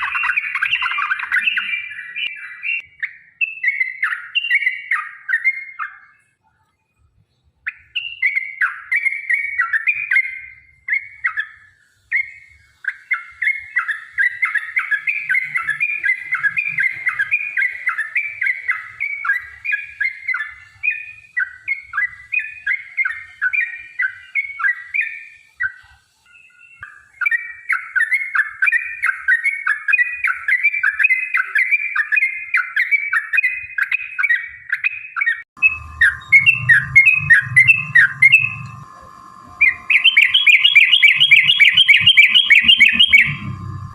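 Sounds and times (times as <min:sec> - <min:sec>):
bulbul chattering song: 0:00.0 - 0:06.1, 0:07.7 - 0:25.9, 0:26.7 - 0:43.9.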